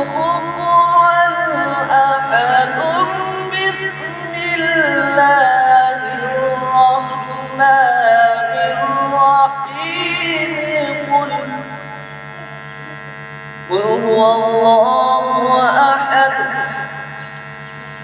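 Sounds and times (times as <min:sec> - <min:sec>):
man reciting melodically into microphone: 0:00.0 - 0:11.9, 0:13.7 - 0:17.0
electrical hum: 0:00.0 - 0:18.0.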